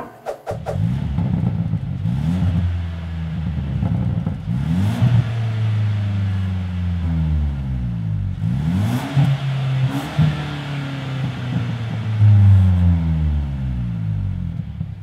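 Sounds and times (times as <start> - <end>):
car engine revving: 0.5 - 15.0.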